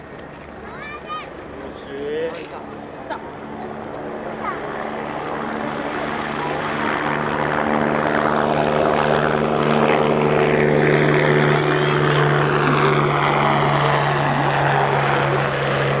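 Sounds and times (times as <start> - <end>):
helicopter rotor and turbine: 0.0 - 16.0
high turbine whine falling: 1.3 - 16.0.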